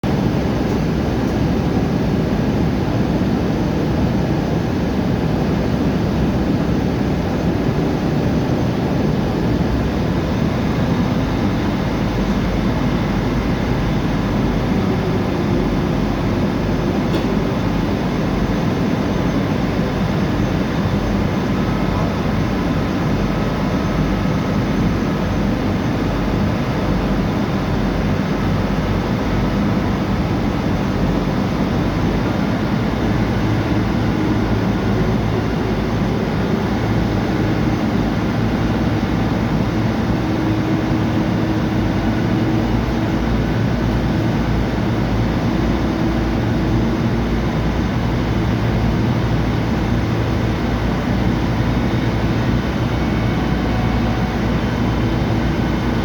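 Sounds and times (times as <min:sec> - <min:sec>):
ferry engine rumbling: 0:00.0 - 0:56.0.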